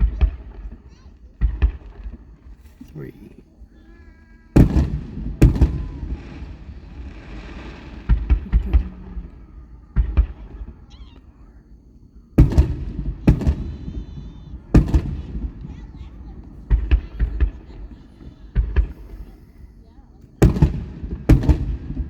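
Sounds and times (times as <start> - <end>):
fireworks booming: 0.0 - 22.0
fireworks crackling hiss: 0.0 - 22.0.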